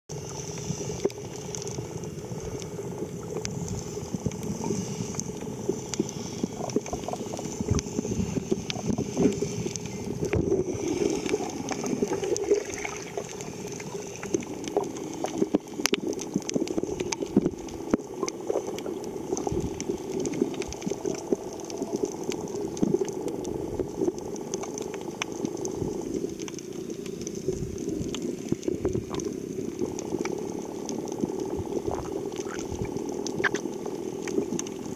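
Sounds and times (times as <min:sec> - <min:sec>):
muffled underwater rush and bubbling: 0:00.1 - 0:34.9
small underwater clicks and crackles: 0:00.1 - 0:34.9.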